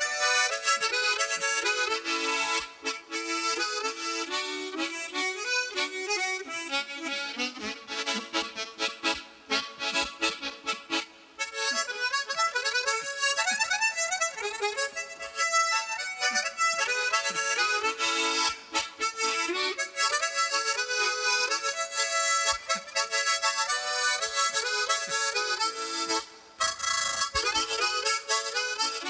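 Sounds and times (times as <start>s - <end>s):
harmonica playing folk melody: 0.0s - 29.0s.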